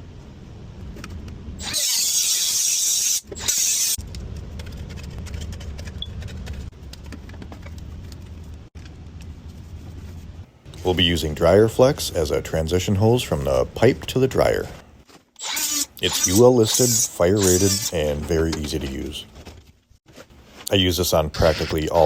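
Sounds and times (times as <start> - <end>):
steady low hum: 3.9 - 22.0.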